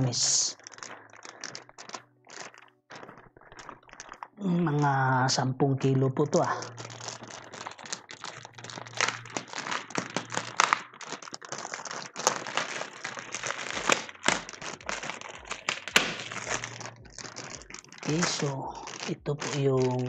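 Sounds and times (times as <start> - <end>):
plastic wrap crinkling: 0.0 - 20.0.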